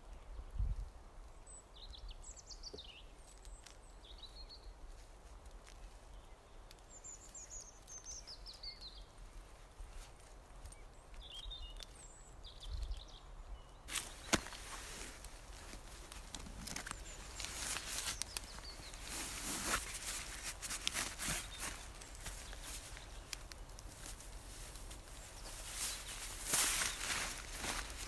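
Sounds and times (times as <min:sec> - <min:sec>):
faint steady hiss: 0:00.0 - 0:28.0
small songbirds chirping: 0:00.0 - 0:28.0.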